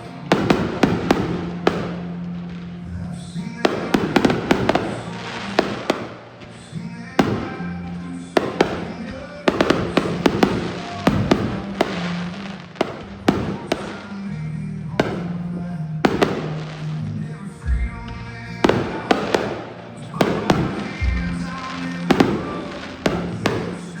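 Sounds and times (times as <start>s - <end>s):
fireworks bangs: 0.0s - 24.0s
music with low notes: 0.0s - 24.0s.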